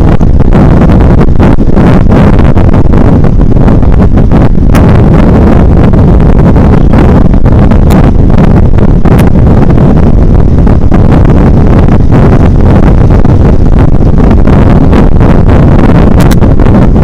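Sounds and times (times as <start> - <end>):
motorcycle road noise: 0.0 - 17.0
wind buffeting microphone: 0.0 - 17.0.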